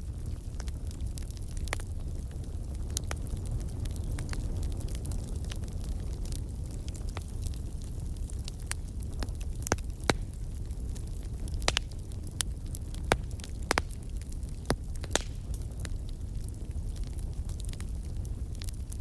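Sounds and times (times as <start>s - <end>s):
burning wood popping: 0.0s - 19.0s
flames rumbling: 0.0s - 19.0s.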